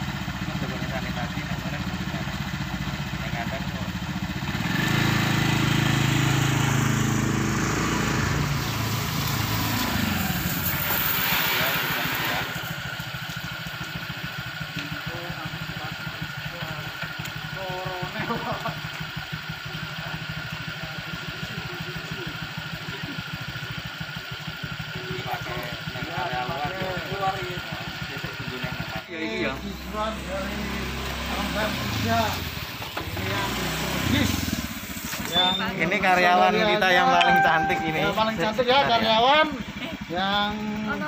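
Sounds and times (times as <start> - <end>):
scooter engine riding off: 0.0 - 28.7, 29.8 - 37.1
scooter engine idling: 0.0 - 41.0.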